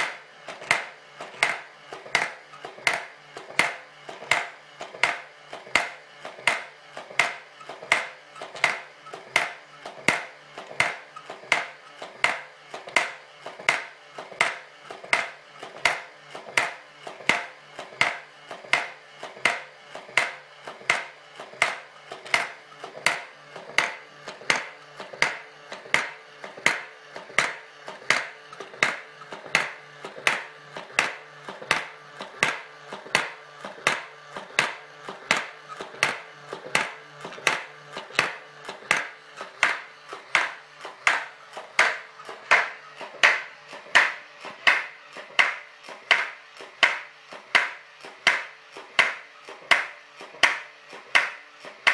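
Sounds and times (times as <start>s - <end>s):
machine low hum: 0.0s - 51.9s.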